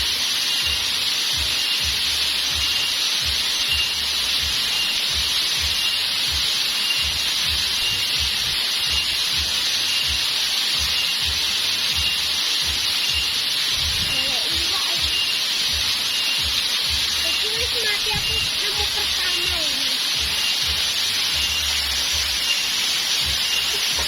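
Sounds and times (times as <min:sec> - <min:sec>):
rushing water of waterfall stream: 0:00.0 - 0:24.0.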